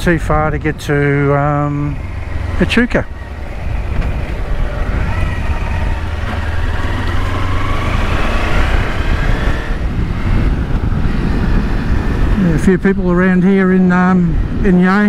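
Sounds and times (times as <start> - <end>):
road rumble: 0.0 - 15.0
motorcycle engine accelerating: 0.5 - 12.8.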